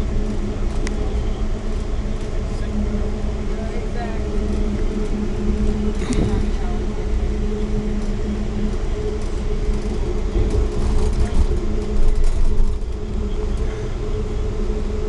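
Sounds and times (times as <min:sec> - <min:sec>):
constant hum: 0:00.0 - 0:15.0
train wheels rumbling on rails: 0:00.0 - 0:15.0.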